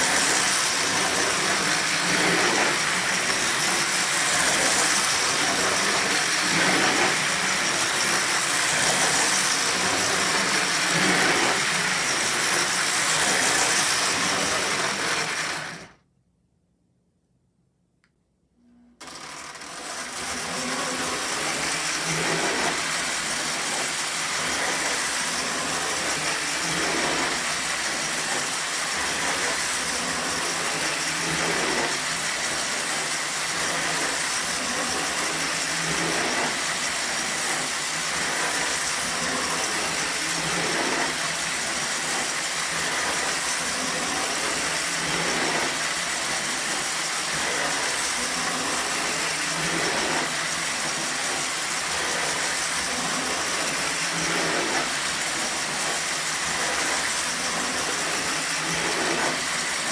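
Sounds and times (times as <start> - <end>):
toy train motor whirring: 0.0 - 16.0, 19.0 - 59.9.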